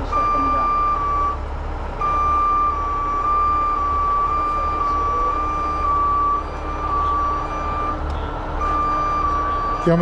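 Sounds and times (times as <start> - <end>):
truck diesel engine rumbling: 0.0 - 10.0
two-tone crane warning alarm: 0.0 - 10.0.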